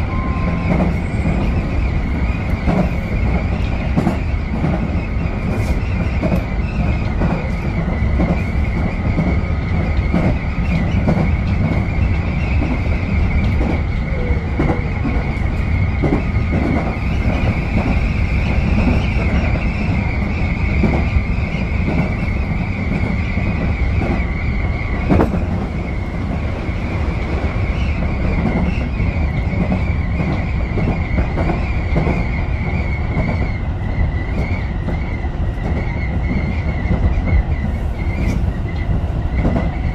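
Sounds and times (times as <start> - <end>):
rail joint clicks: 0.0 - 39.9
train wheels rumbling on rail: 0.0 - 39.9.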